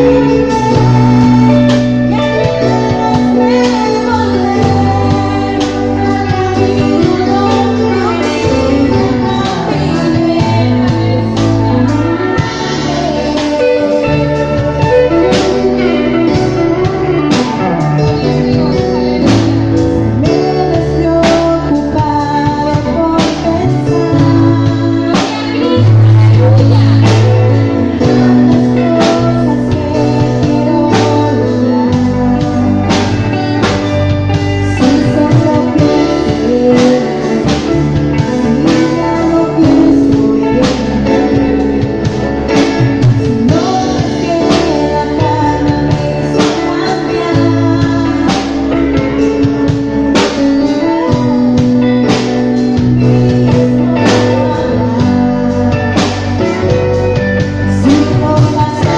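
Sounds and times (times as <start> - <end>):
bass: 0.0 - 58.9
guitar: 0.0 - 58.9
person singing: 0.0 - 58.9
steady drum beat: 0.0 - 58.9.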